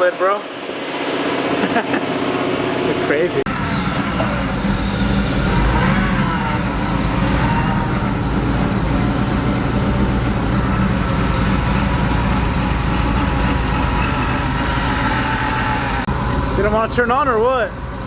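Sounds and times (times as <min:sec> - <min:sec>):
supercharger whine: 0:00.3 - 0:18.0
engine rumbling: 0:00.5 - 0:18.0.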